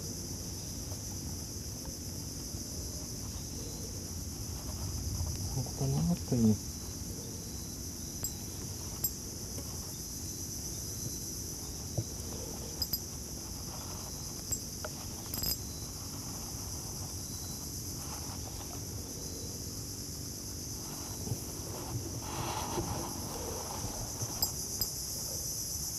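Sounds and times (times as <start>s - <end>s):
high-pitched insect chorus: 0.0s - 25.9s.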